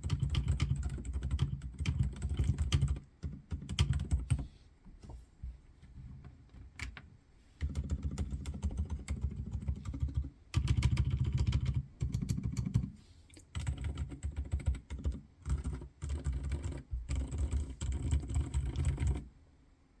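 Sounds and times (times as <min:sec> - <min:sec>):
typing on mechanical keyboard: 0:00.0 - 0:04.4, 0:07.6 - 0:19.3.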